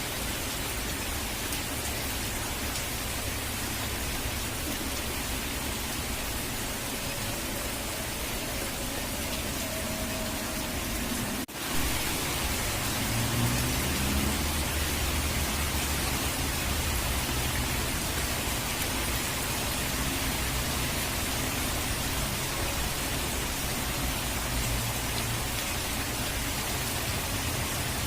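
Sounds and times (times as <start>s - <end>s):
rushing water: 0.0s - 28.0s
steady rain: 0.0s - 28.0s.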